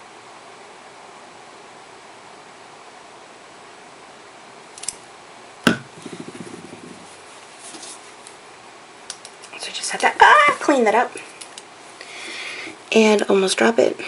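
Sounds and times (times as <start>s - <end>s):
room hiss: 0.0s - 14.0s.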